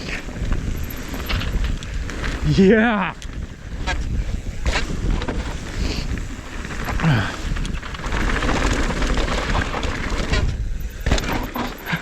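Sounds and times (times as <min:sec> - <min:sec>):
bike tyres rattling over rocks: 0:00.0 - 0:12.0
wind rushing over microphone: 0:00.0 - 0:12.0.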